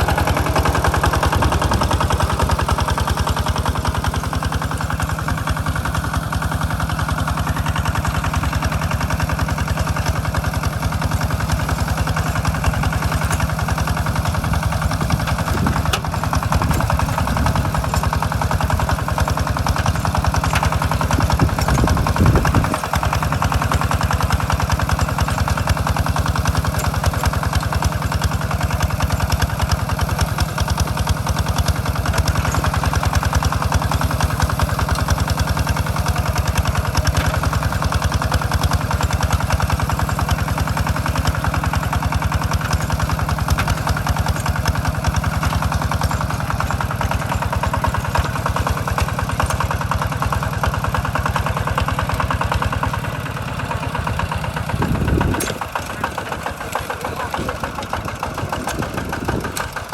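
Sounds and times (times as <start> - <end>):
hand tractor engine chugging: 0.0 - 59.9.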